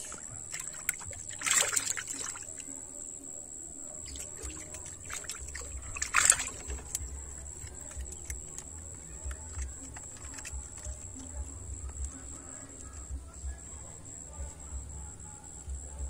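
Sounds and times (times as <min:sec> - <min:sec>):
splashing dribbling water: 0:00.0 - 0:16.0
steady high whine: 0:00.0 - 0:16.0.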